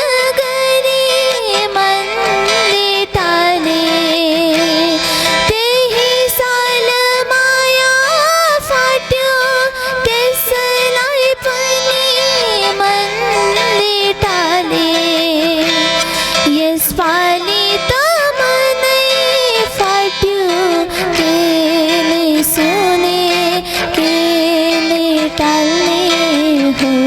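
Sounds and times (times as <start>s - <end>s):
woman singing with vibrato: 0.0s - 27.0s.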